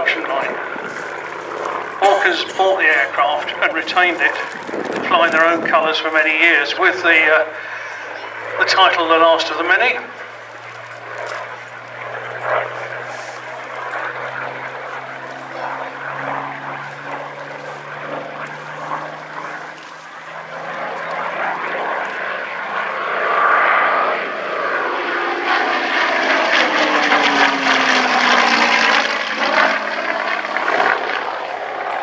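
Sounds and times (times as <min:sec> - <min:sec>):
propeller aircraft engine passing: 0:00.0 - 0:32.0.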